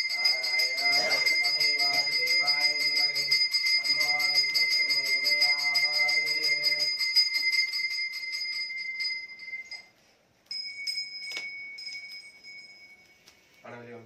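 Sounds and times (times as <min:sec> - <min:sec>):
bell ringing rapidly: 0:00.0 - 0:09.9, 0:10.5 - 0:13.1.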